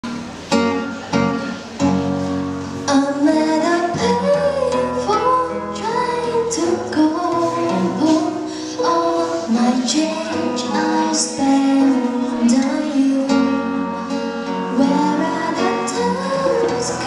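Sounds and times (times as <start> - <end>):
guitar chords: 0.0 - 17.0
woman singing: 2.8 - 17.0.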